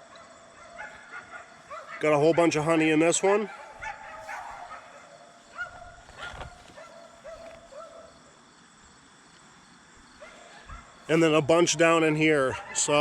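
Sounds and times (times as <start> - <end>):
faint animal calls: 0.0 - 8.4, 10.1 - 13.0.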